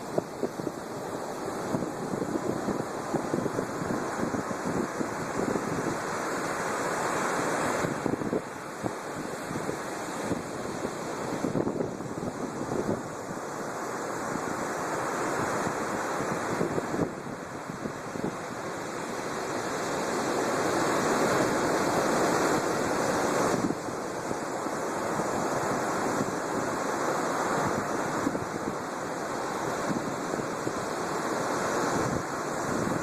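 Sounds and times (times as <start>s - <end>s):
heavy waves breaking: 0.0s - 33.0s
wind: 0.0s - 33.0s.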